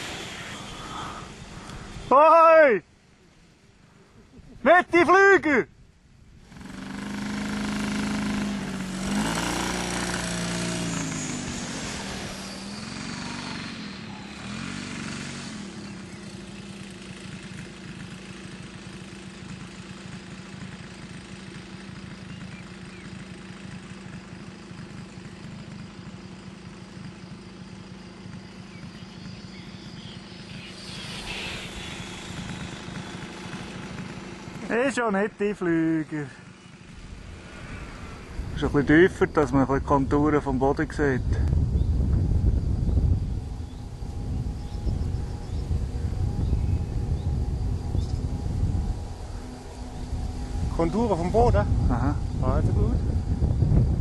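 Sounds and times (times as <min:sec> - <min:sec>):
model aircraft engine droning: 0:00.0 - 0:02.2, 0:05.8 - 0:54.0.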